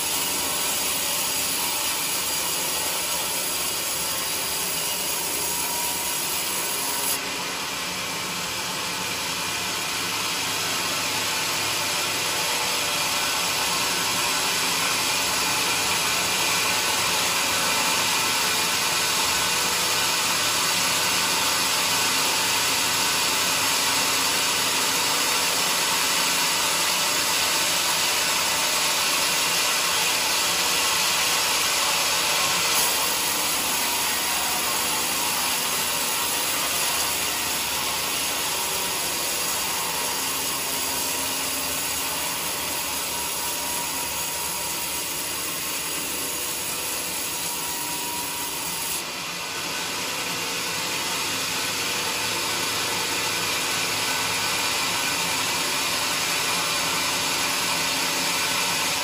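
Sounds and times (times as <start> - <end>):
band saw cutting wood: 0.0 - 59.0.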